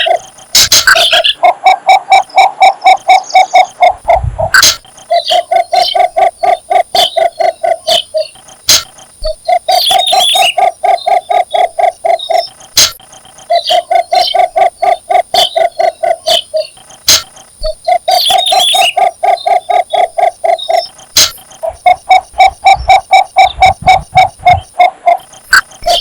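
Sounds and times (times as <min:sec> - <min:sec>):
bird croaking call: 0:00.0 - 0:26.0
sharp clicks: 0:03.8 - 0:26.0.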